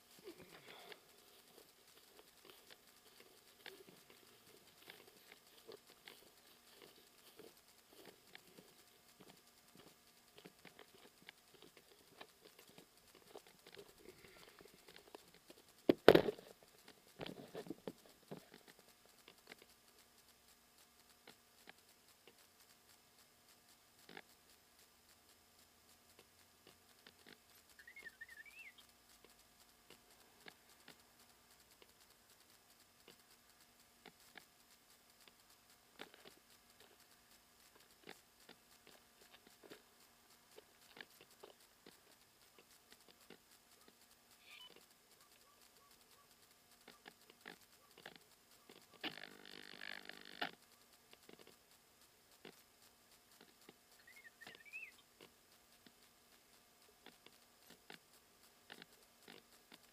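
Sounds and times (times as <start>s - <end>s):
rustling and scraping: 0.0s - 27.8s, 28.8s - 59.9s
faint scattered ticks: 0.0s - 59.9s
faint steady hum and hiss: 0.0s - 59.9s.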